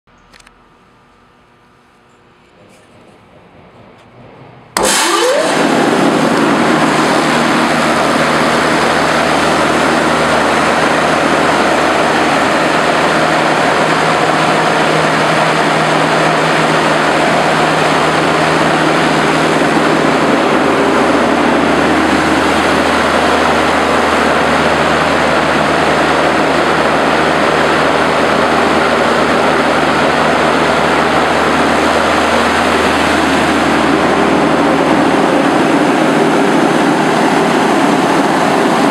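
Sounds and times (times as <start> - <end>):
low motor hum: 0.1 - 38.9
industrial fan rushing air: 0.3 - 38.9.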